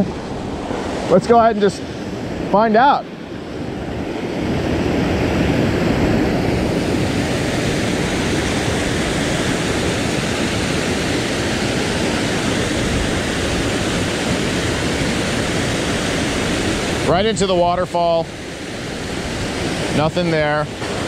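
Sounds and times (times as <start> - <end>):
waterfall rushing into pool: 0.0 - 21.0.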